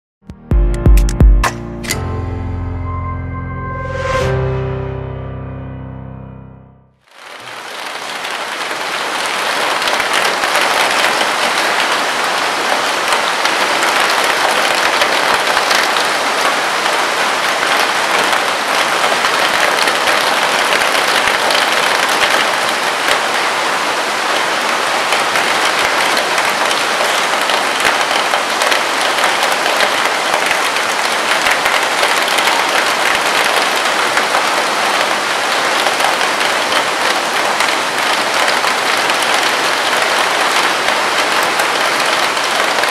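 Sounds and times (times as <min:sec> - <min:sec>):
rain on tent fabric: 0:07.0 - 0:42.9.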